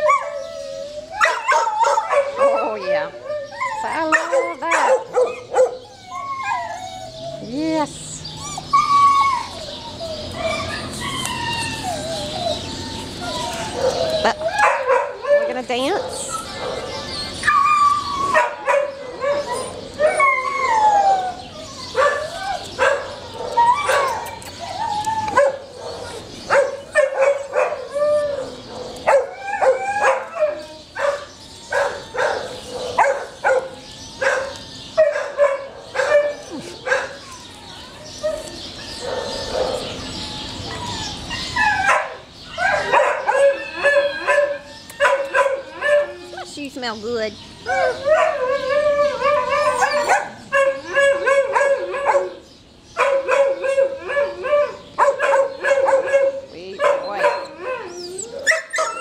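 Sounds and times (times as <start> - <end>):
dog barking and yipping: 1.2 - 3.1, 3.8 - 5.8, 10.2 - 20.8, 21.9 - 24.6, 25.3 - 28.0, 28.6 - 37.4, 38.2 - 46.5, 47.6 - 52.4, 53.0 - 59.0.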